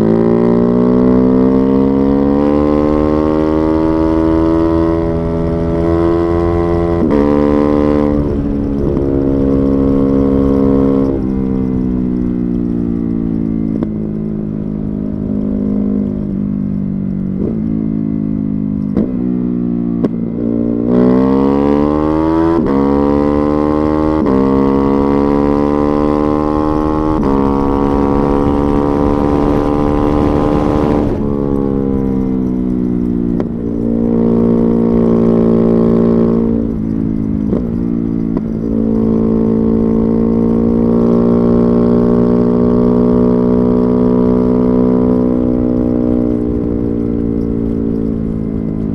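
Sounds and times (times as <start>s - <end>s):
motorcycle engine revving: 0.0s - 48.9s
exhaust cracks: 2.1s - 21.0s, 23.7s - 48.9s.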